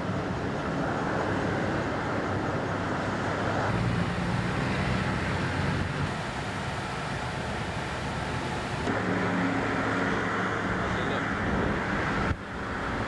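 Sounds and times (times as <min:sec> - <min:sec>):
low engine hum: 0:00.0 - 0:13.0
vehicles driving past: 0:00.0 - 0:13.0.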